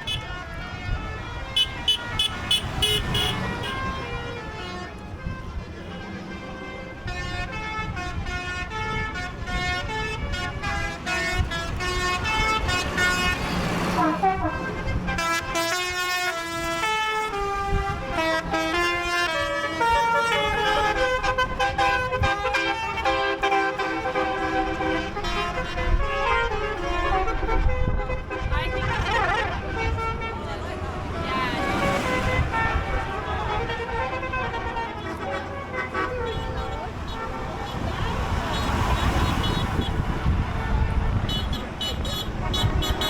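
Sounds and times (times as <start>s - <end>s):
diesel engine rumble: 0.0s - 43.0s
horn-like tune from vehicle: 0.0s - 43.0s.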